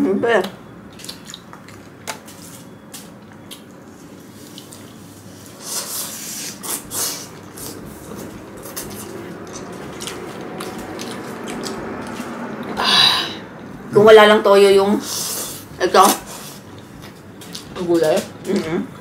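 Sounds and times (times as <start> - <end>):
wet chewing: 0.4 - 13.9, 15.0 - 18.8.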